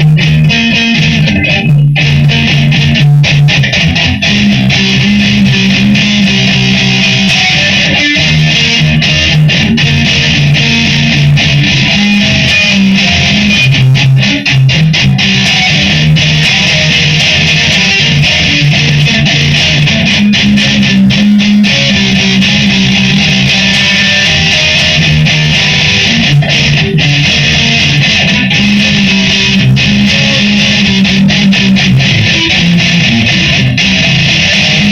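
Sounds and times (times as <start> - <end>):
electric guitar strumming: 0.0 - 34.9.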